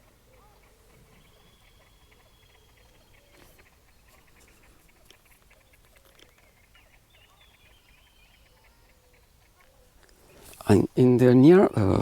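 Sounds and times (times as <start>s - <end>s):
faint distant bird calls: 0.0s - 12.0s.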